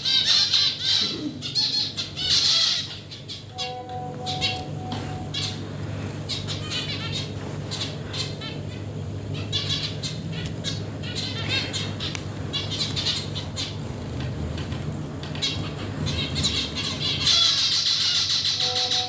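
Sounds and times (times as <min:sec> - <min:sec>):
birds chattering trills: 0:00.0 - 0:19.0
steady low hum: 0:00.0 - 0:19.0.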